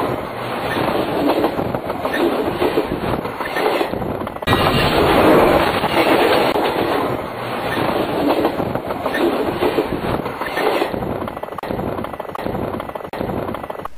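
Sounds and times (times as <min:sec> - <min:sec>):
train rumbling over track: 0:00.0 - 0:13.9.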